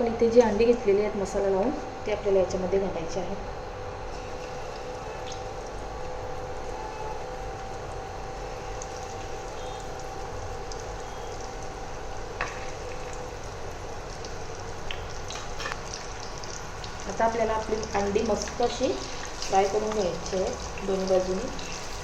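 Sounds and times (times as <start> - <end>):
eggs sizzling in hot oil: 3.9 - 22.0.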